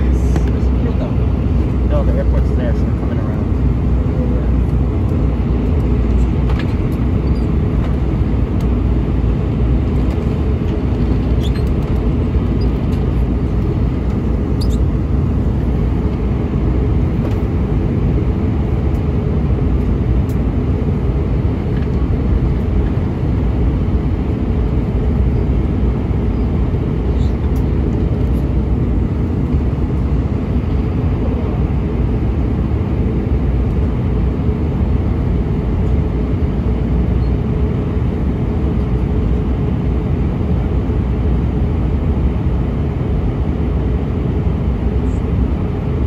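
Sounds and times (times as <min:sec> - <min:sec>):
airplane cabin roar: 0:00.0 - 0:46.0.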